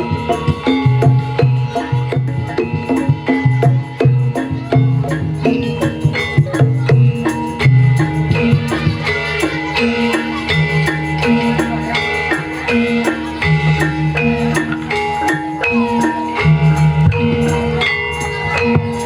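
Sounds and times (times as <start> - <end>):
struck bronze metallophones: 0.0 - 19.0.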